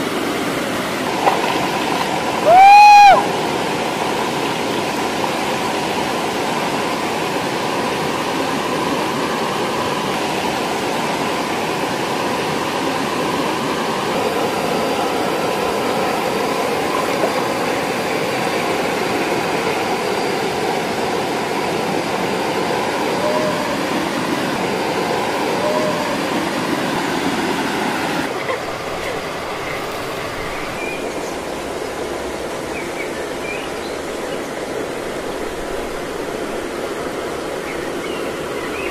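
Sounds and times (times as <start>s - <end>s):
waterfall and stream rushing: 0.0s - 38.9s.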